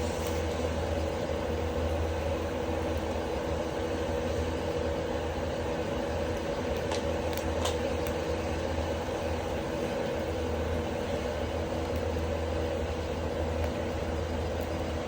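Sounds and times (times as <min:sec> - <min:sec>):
exhaust fan whirring: 0:00.0 - 0:15.0
faint firewood crackles: 0:00.0 - 0:15.0.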